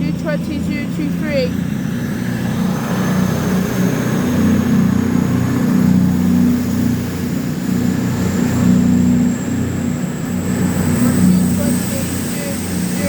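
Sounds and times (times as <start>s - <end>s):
train diesel engines humming: 0.0s - 13.0s.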